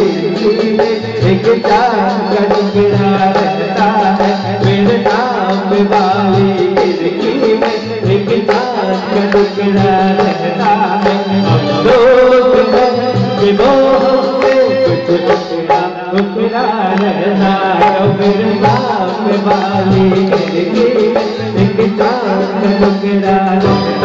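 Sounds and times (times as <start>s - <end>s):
person singing over a beat: 0.0s - 24.0s.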